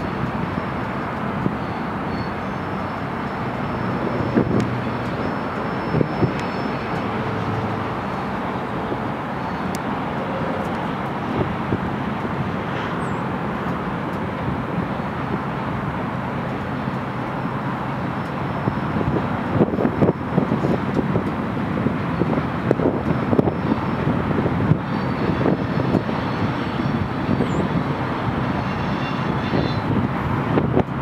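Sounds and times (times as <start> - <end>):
freight cars rumbling past: 0.0 - 31.0.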